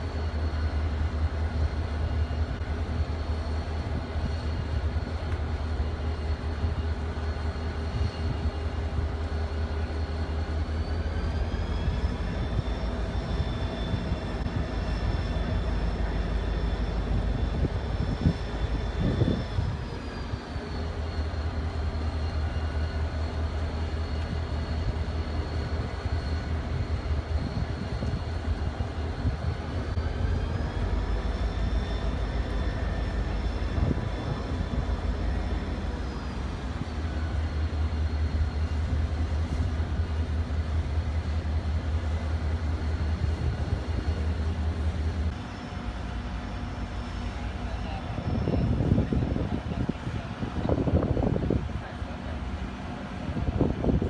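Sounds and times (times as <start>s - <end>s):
machine whine: 0.0s - 51.6s
train rumbling past: 0.0s - 54.0s.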